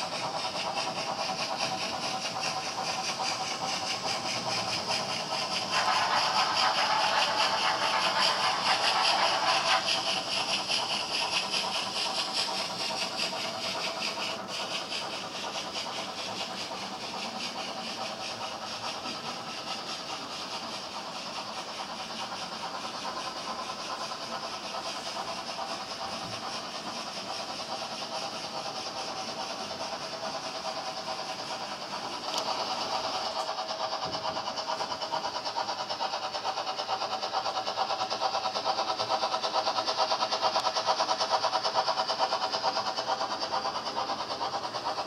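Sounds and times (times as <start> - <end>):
model train motor whirring: 0.0 - 45.0
train wheels clicking over track: 0.0 - 45.0.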